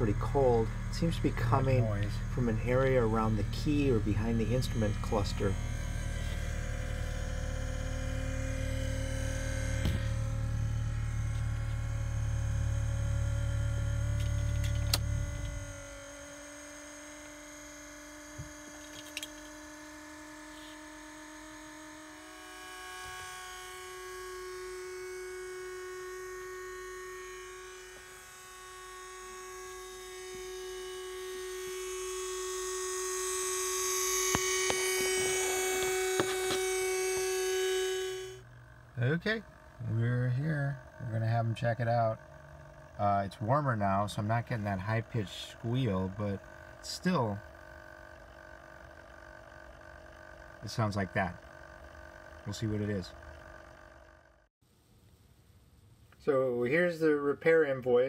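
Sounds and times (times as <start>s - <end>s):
fan whining and squealing: 0.0s - 54.5s.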